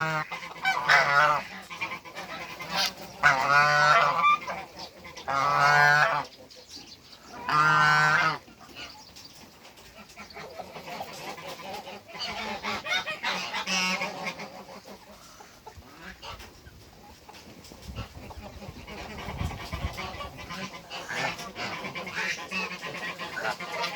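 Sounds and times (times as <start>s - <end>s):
geese honking: 0.0s - 6.5s, 7.2s - 9.1s, 9.9s - 16.6s, 17.9s - 23.9s.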